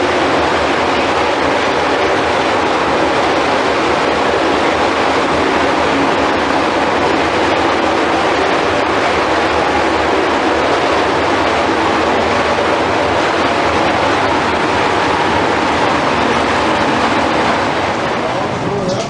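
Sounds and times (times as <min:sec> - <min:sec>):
machinery rumbling and rushing: 0:00.0 - 0:19.0.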